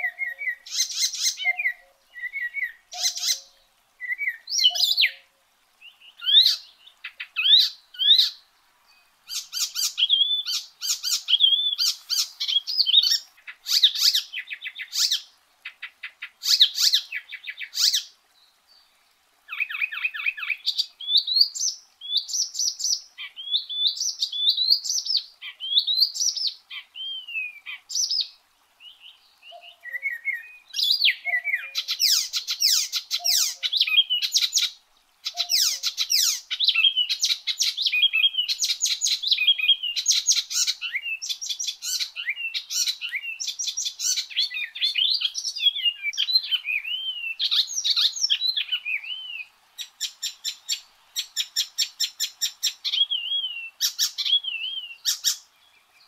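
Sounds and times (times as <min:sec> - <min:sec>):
warbler singing: 0:00.0 - 0:18.9, 0:19.5 - 0:56.0.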